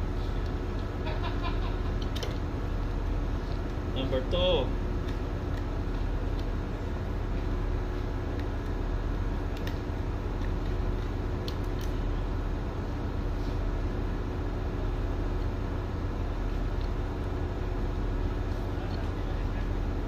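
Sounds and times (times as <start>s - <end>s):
low machinery drone: 0.0s - 20.0s.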